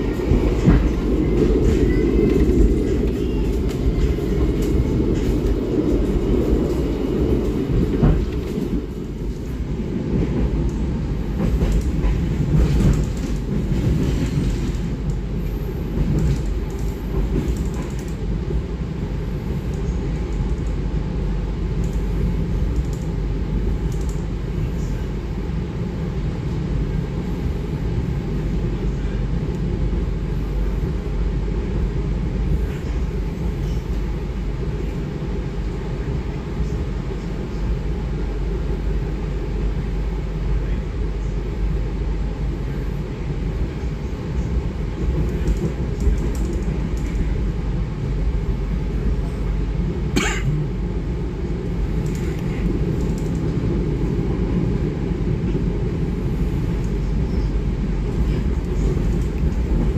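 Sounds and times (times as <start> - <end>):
train rumble from inside coach: 0.0 - 59.9.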